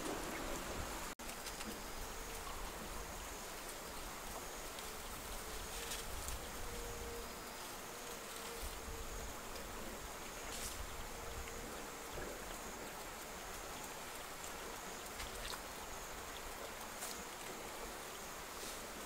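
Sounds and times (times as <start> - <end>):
background hiss: 0.0 - 19.0
insect buzzing: 0.0 - 19.0.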